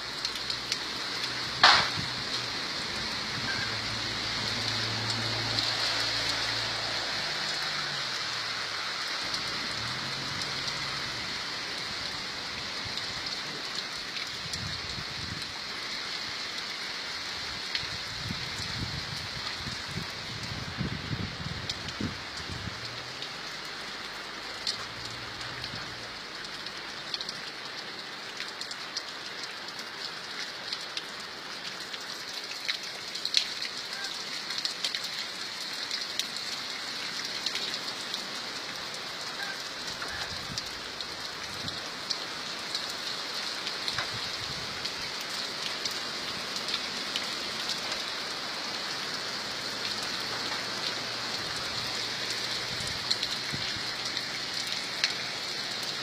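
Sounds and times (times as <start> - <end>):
raindrops ticking on a surface: 0.0 - 56.0
steady rain hiss: 0.0 - 56.0.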